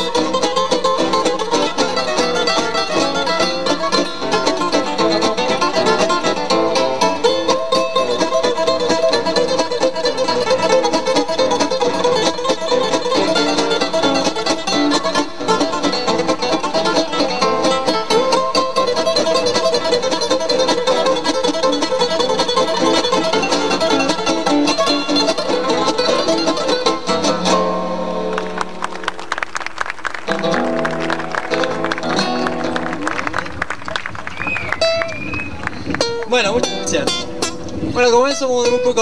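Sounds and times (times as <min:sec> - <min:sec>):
acoustic guitars playing tango: 0:00.0 - 0:29.5, 0:30.2 - 0:39.0.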